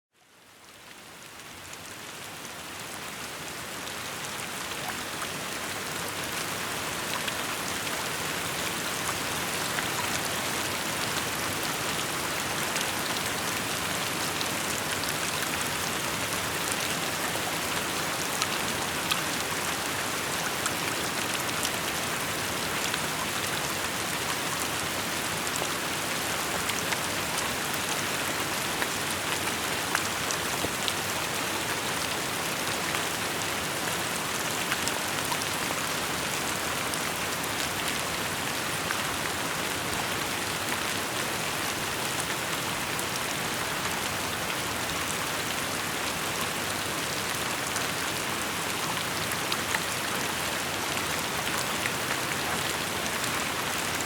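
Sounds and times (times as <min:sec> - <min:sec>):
steady rainfall: 0:00.2 - 0:54.0.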